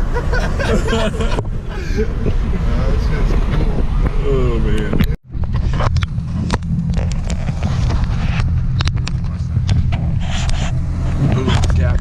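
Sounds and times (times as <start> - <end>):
car engine droning through loud exhaust: 0.0 - 12.0.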